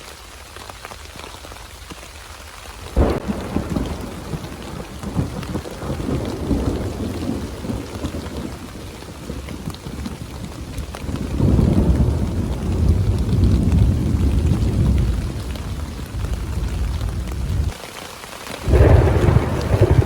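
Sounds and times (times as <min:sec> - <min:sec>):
steady rain: 0:00.0 - 0:20.0
thunder rumbling: 0:02.9 - 0:17.8, 0:18.6 - 0:20.0.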